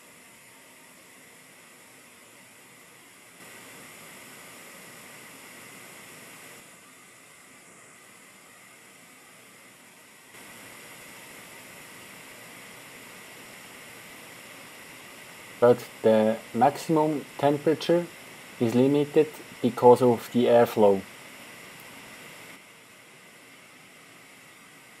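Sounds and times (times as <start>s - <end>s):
hot-air heater hissing: 0.0s - 25.0s.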